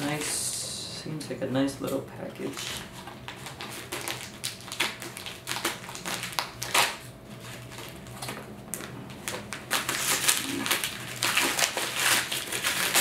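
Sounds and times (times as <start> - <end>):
packaging rustling and crinkling: 2.4 - 13.0.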